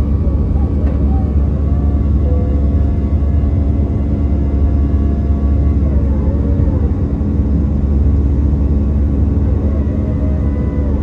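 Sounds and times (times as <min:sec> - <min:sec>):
airplane cabin low rumble: 0:00.0 - 0:11.0
jet engines humming: 0:00.0 - 0:11.0.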